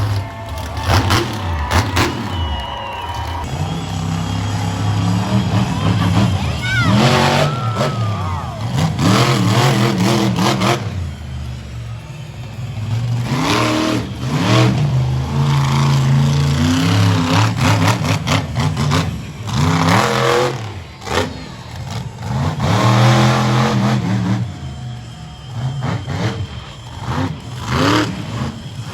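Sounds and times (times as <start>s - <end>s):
monster truck engine revving: 0.0s - 28.9s.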